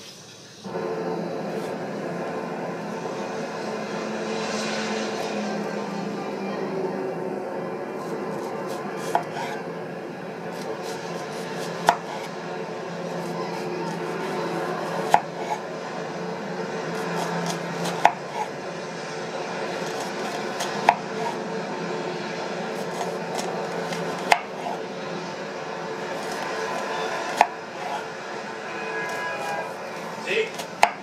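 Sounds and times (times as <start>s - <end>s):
steady background noise: 0.0s - 31.0s.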